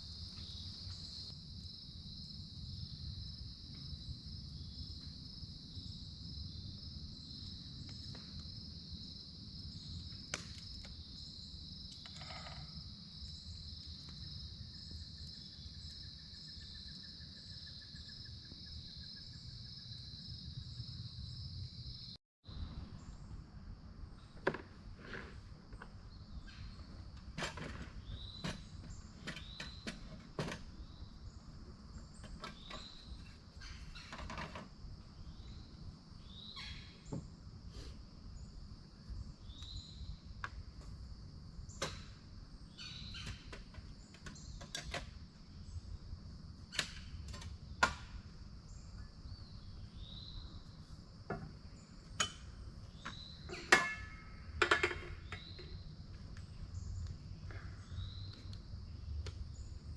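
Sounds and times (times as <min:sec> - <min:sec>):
crickets and night insects chirping: 0:00.0 - 0:59.9.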